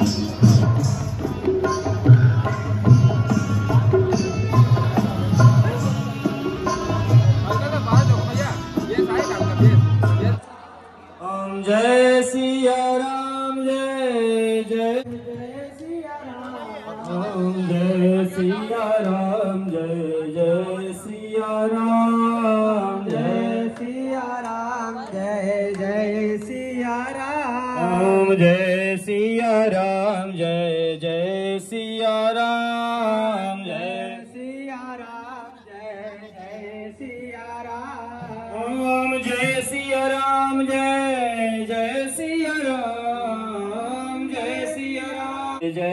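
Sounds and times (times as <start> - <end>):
men chanting a hymn: 9.1 - 45.9.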